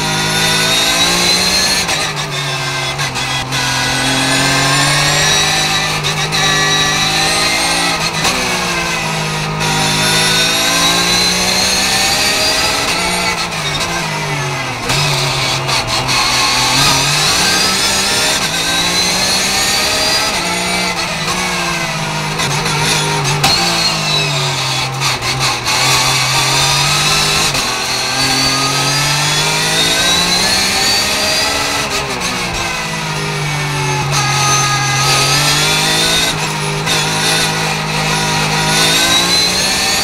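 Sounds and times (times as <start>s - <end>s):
racing car engine revving: 0.0s - 40.0s.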